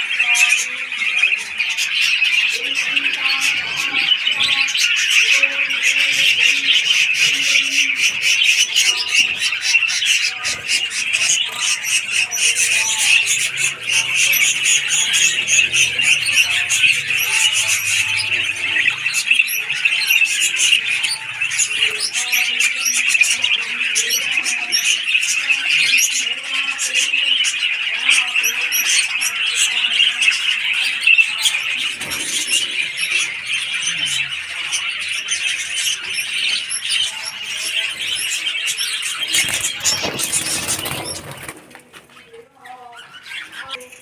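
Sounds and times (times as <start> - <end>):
birds chirping and chattering: 0.0 - 44.0.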